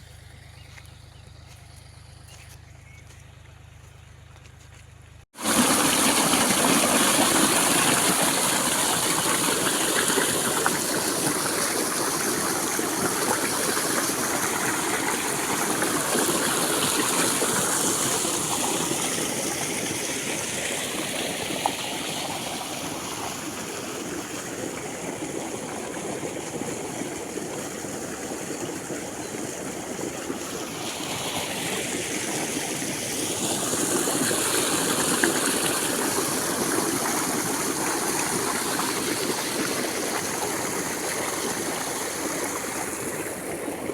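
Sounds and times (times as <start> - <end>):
water gushing from pump outlet: 5.3 - 43.9.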